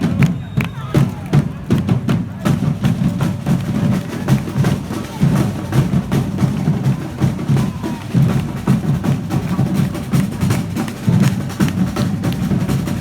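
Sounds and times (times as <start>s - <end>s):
drums beating a steady rhythm: 0.0s - 13.0s.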